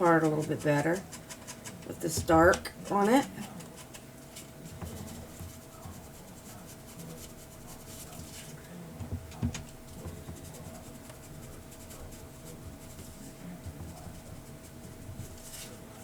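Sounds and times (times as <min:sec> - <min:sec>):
ink pad scratching on paper: 0:00.0 - 0:08.6, 0:09.2 - 0:16.0.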